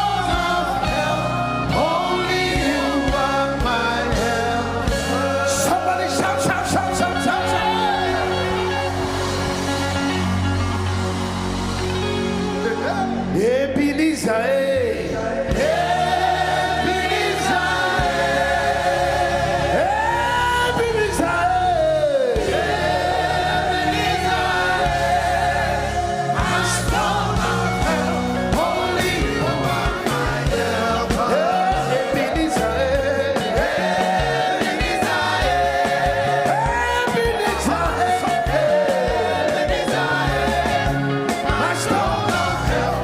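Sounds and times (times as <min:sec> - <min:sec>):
band playing: 0:00.0 - 0:43.0
choir singing gospel music: 0:00.0 - 0:43.0
drums: 0:00.0 - 0:43.0.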